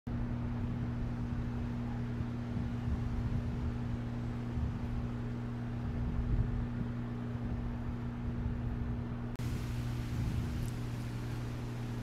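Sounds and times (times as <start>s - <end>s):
low mechanical hum: 0.1s - 12.0s.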